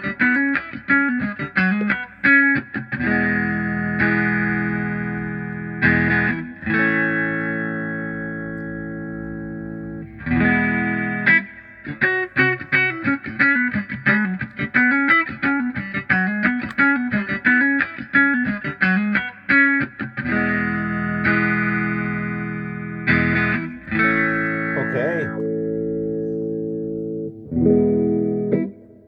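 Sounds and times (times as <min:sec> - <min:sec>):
electric guitar through wah pedal: 0:00.0 - 0:29.0.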